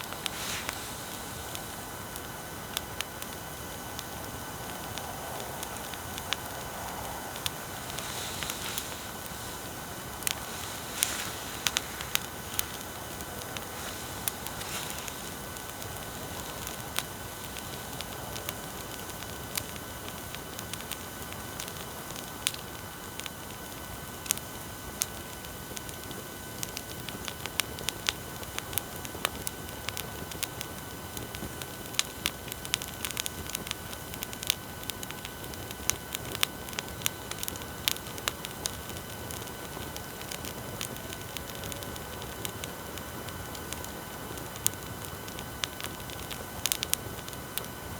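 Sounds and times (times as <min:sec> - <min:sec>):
bonfire crackling and popping: 0:00.0 - 0:47.9
faint thin whine: 0:00.0 - 0:47.9
steady hiss: 0:00.0 - 0:47.9.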